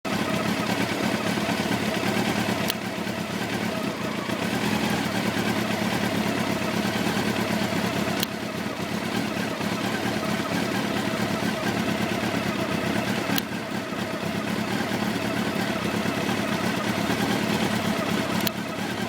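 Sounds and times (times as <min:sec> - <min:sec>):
motorcycle engine idling: 0:00.0 - 0:19.0
sharp clicks: 0:00.6 - 0:14.1, 0:14.7 - 0:19.0.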